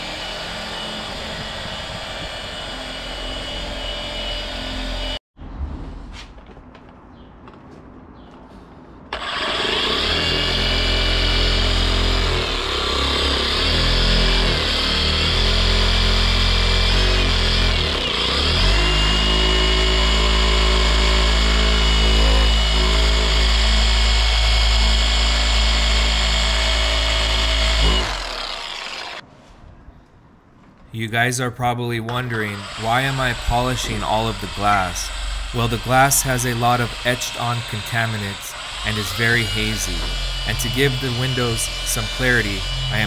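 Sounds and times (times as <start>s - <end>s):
electric orbital polisher whining: 0.0s - 5.2s, 9.1s - 29.2s, 32.5s - 43.0s.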